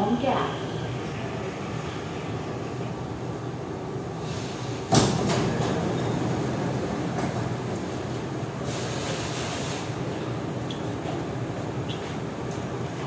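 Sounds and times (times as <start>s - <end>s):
train car hum: 0.0s - 13.0s.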